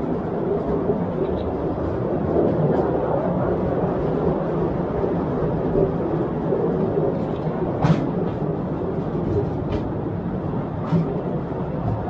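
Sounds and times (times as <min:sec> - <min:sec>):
train carriages rumbling and rattling: 0:00.0 - 0:12.0.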